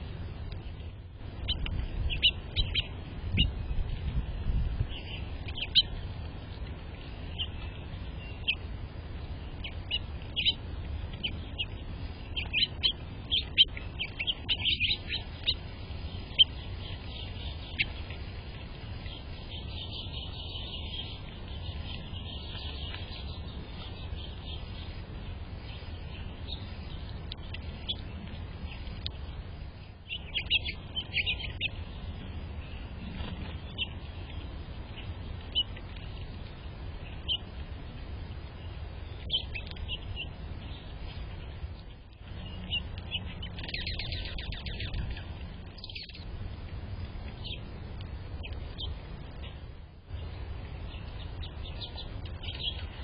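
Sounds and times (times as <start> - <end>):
low background rumble: 0.0 - 53.0
small birds chirping: 0.1 - 53.0.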